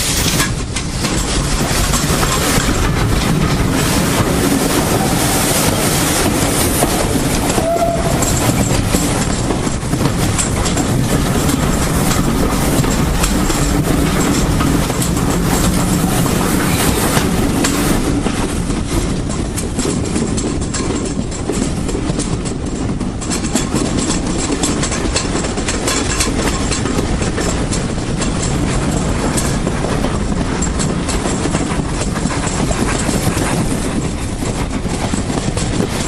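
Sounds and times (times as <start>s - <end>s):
steam train rumble: 0.0s - 36.0s
wheels clattering over rail joints: 0.0s - 36.0s.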